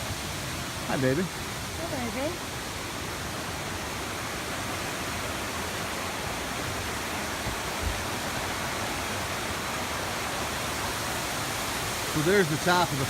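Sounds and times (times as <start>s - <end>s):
river rushing over falls: 0.0s - 13.0s.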